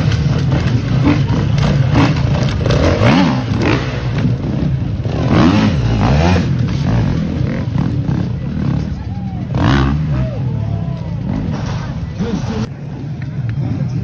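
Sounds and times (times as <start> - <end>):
dirt bike engine revving: 0.0 - 12.7.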